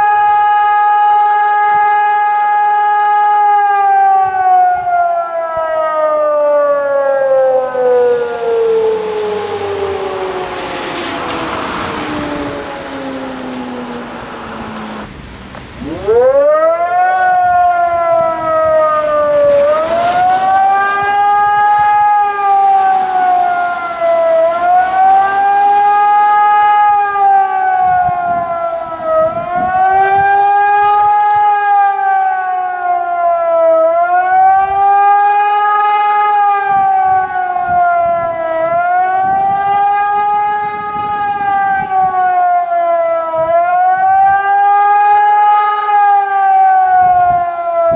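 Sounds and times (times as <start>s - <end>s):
civil defence siren wailing: 0.0s - 47.9s.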